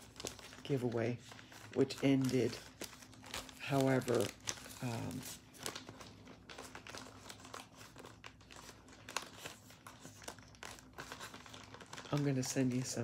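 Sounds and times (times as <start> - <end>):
paper and packaging crinkling: 0.0 - 13.0.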